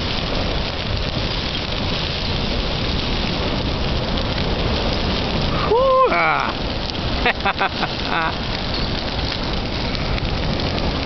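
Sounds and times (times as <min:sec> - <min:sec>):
fire crackling: 0:00.0 - 0:11.0
tree fire rushing: 0:00.0 - 0:11.0.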